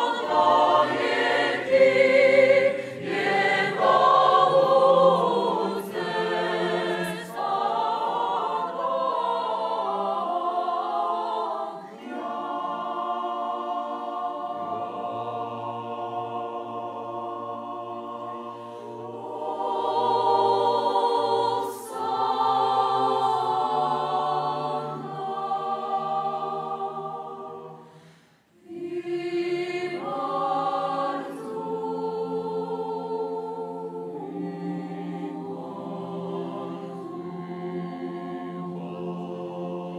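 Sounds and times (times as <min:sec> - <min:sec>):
mixed choir singing unaccompanied: 0:00.0 - 0:39.9.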